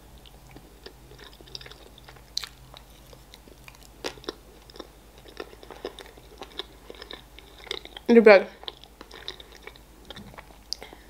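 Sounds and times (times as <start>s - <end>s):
crunches while chewing: 0.2s - 11.0s
soft wet chewing: 0.2s - 11.0s.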